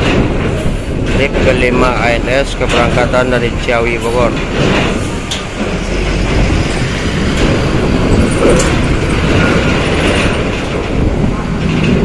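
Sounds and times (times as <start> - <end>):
bus passing: 0.0 - 12.0.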